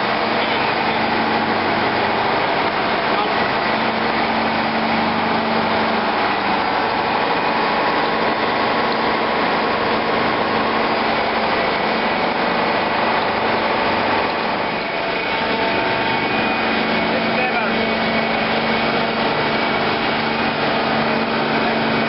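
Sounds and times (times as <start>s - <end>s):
engine room machinery drone: 0.0s - 22.0s.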